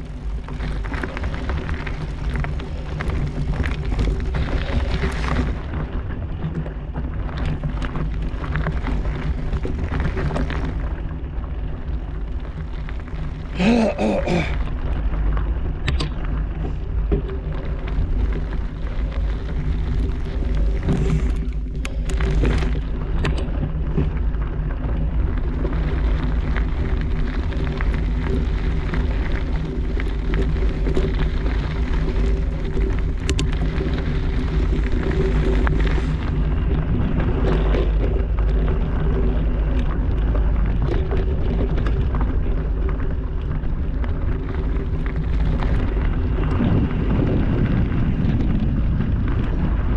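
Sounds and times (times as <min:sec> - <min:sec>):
steady mechanical hum: 0:00.0 - 0:49.9
wind rumble on microphone: 0:00.0 - 0:49.9.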